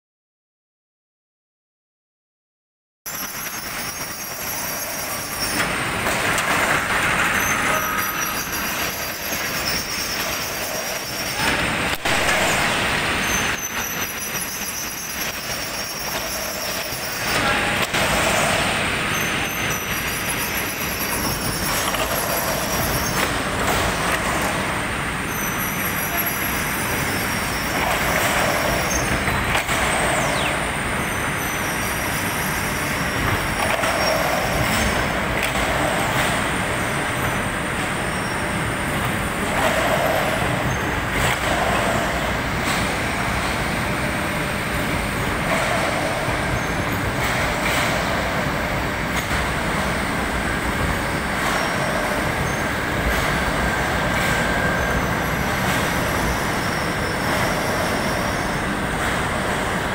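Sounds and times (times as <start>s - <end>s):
mid-pitched machine sound: 3.1s - 59.9s
printing machinery running: 3.1s - 59.9s.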